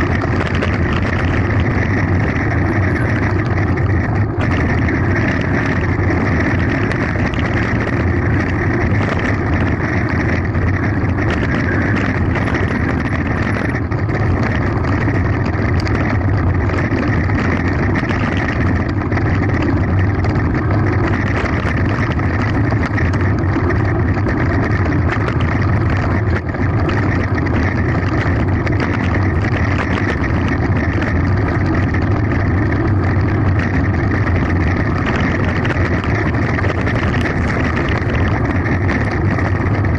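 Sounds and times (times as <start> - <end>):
bike rattling and clicking: 0.0 - 39.9
wind and tyre noise: 0.0 - 39.9.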